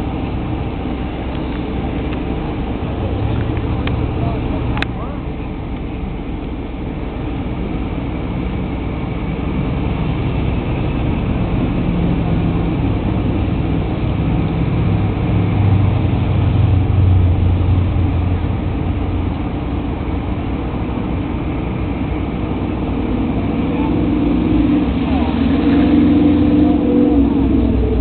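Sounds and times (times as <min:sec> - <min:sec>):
car engines in traffic: 0:00.0 - 0:28.0
road noise: 0:00.0 - 0:28.0.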